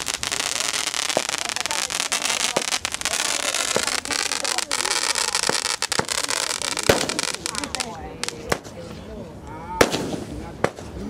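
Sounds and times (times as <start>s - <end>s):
fireworks crackling hiss: 0.0s - 9.0s, 9.8s - 11.0s
fireworks popping and banging: 0.0s - 9.0s, 9.8s - 11.0s.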